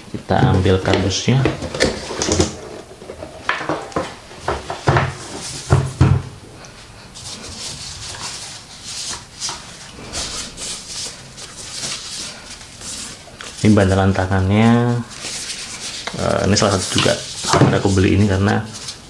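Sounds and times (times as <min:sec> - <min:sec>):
cardboard rustling and scraping: 0:00.0 - 0:06.4, 0:07.1 - 0:19.0.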